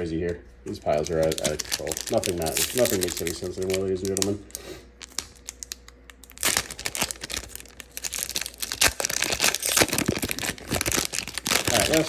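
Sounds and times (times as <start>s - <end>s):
foil wrapper crinkling and tearing: 0.8s - 12.0s.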